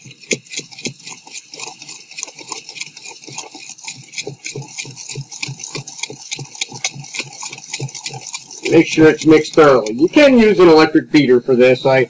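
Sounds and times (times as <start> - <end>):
spatula stirring batter in bowl: 0.0 - 12.0.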